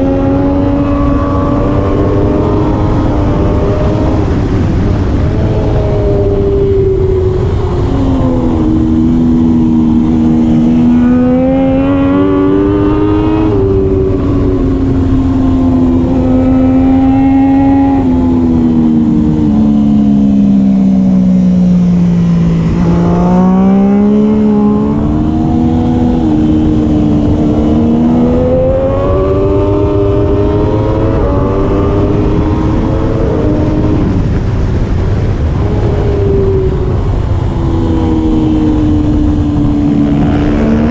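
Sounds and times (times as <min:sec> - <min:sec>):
motorcycle engine accelerating: 0:00.0 - 0:40.9
steady rush of noise: 0:00.0 - 0:40.9.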